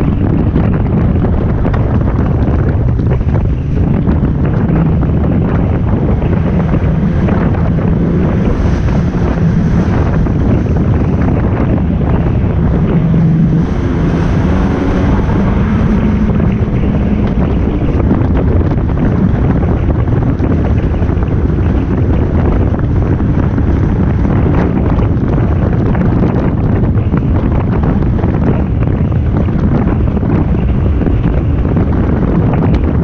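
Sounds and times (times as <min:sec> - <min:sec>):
jet ski engine drone: 0:00.0 - 0:33.0
wind buffeting microphone: 0:00.0 - 0:33.0
water rushing past hull: 0:00.6 - 0:33.0.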